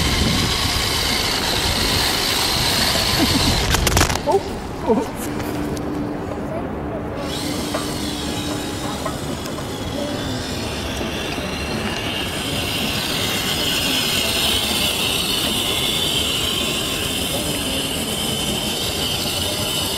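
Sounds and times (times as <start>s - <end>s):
rc car motor and tyres hissing: 0.0s - 4.5s, 7.2s - 19.9s.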